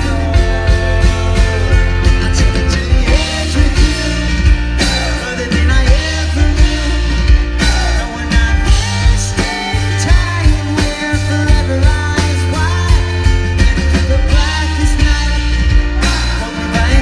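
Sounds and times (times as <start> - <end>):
man singing: 0.0 - 17.0
rock band playing live: 0.0 - 17.0.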